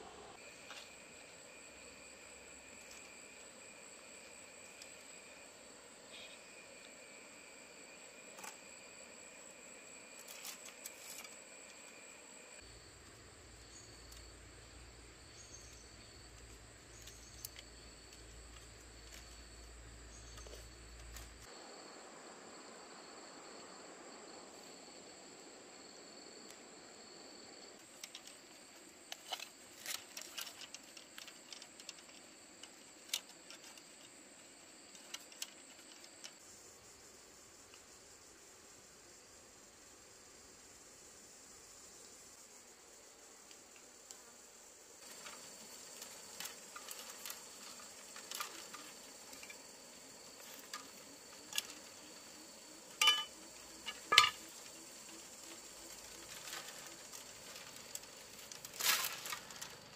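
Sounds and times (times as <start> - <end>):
insect chirring: 0.0 - 21.6, 25.8 - 59.9.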